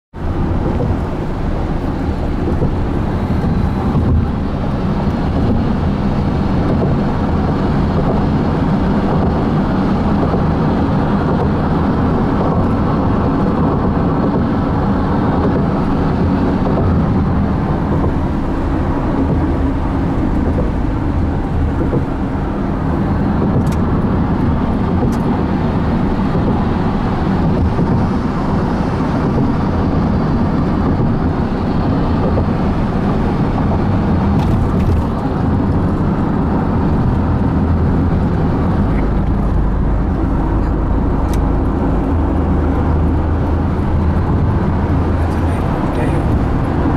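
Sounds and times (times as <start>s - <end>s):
car road noise drone: 0.1s - 46.9s.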